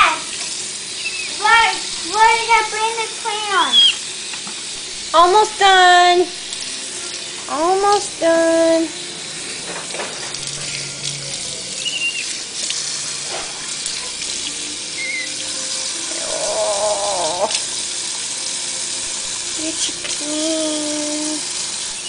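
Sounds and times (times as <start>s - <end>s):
water splashing into sink: 0.0s - 22.0s.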